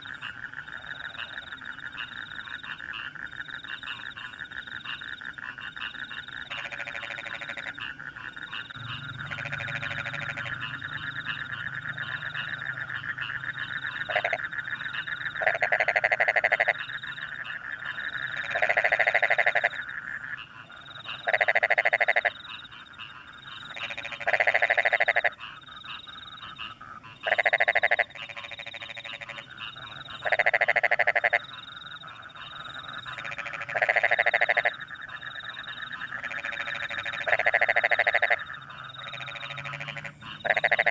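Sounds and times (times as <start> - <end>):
crickets trilling: 0.0 - 26.6, 27.2 - 40.9
frogs chorus: 0.0 - 40.9
loud frog calling: 0.0 - 40.9.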